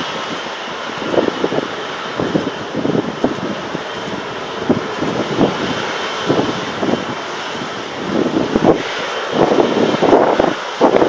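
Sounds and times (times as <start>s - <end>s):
jet engines rushing hiss: 0.0s - 11.0s
wind buffeting microphone: 0.0s - 11.0s.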